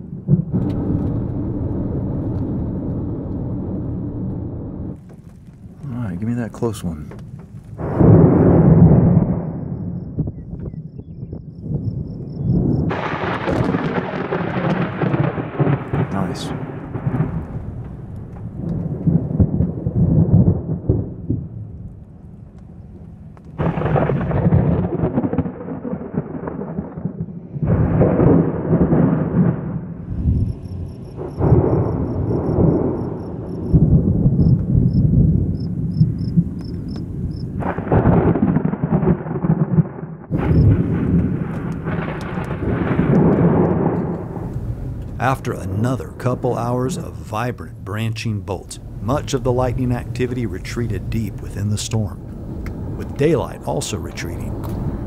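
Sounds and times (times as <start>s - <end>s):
thunder claps rumbling: 0.0s - 22.1s, 23.6s - 55.0s.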